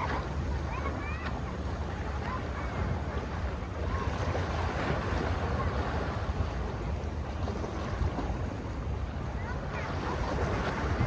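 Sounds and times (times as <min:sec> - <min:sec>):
sea waves washing on shore: 0:00.0 - 0:11.0
wind rumble on microphone: 0:00.0 - 0:11.0.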